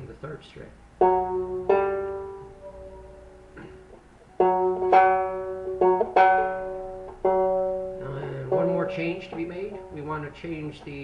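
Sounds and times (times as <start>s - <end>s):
banjo notes plucked: 1.0s - 10.8s.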